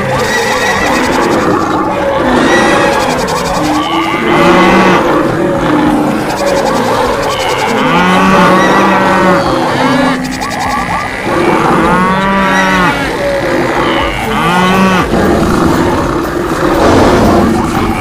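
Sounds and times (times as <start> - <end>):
cattle mooing: 0.0 - 18.0.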